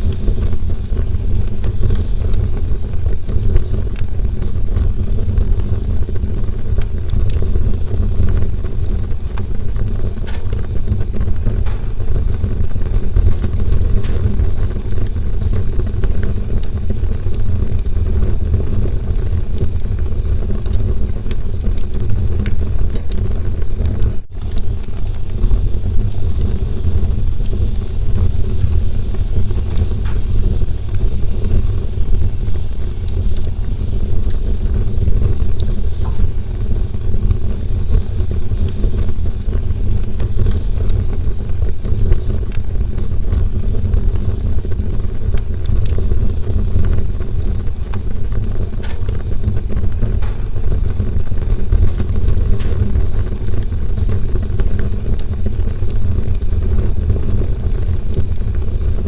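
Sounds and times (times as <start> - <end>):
crackles and pops of burning wood: 0.0 - 59.0
low rumble of flames: 0.0 - 59.0.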